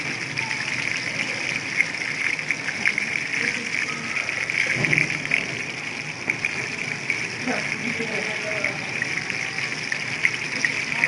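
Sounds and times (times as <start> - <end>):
deep-frying sizzle with pops: 0.0 - 11.0.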